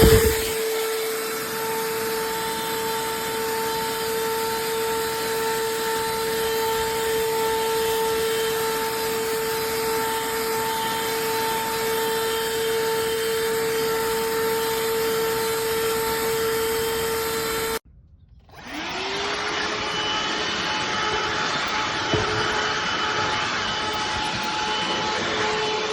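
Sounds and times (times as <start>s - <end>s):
handheld vacuum motor whine: 0.0s - 17.8s, 18.4s - 25.9s.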